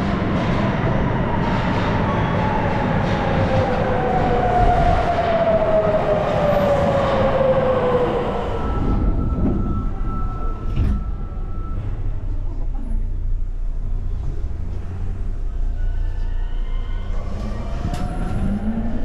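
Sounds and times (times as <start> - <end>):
train pulling into station: 0.0 - 19.0.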